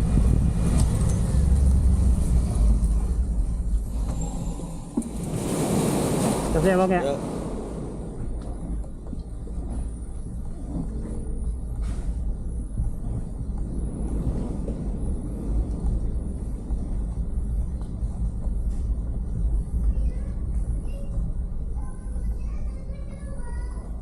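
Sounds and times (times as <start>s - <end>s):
heavy low rumble: 0.0s - 24.0s.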